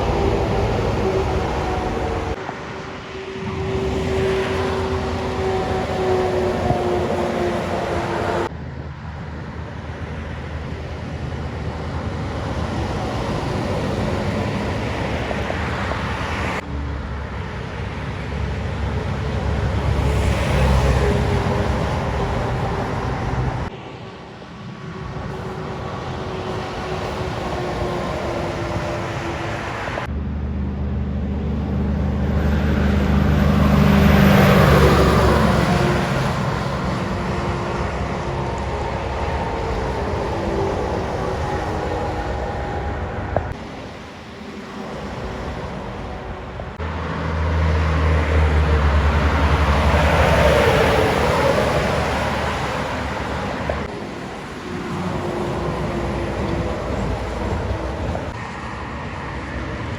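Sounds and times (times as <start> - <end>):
heavy trucks driving past: 0.0 - 59.9.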